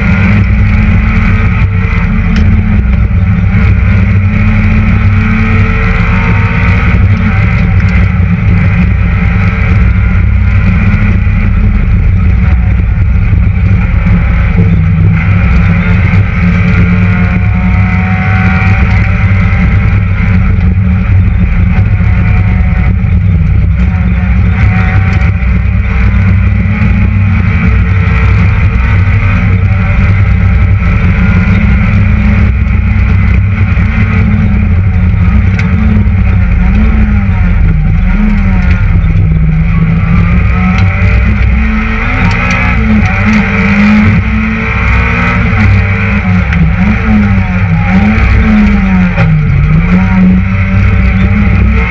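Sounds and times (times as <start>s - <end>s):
car engine driven hard: 0.0s - 51.9s.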